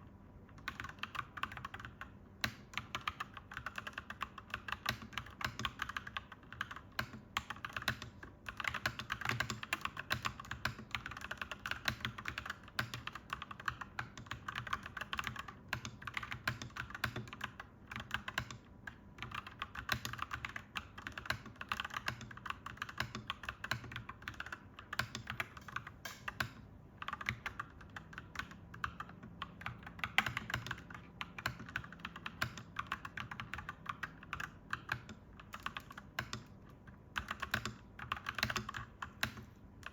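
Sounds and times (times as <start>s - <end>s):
mechanical keyboard typing: 0.5s - 39.9s.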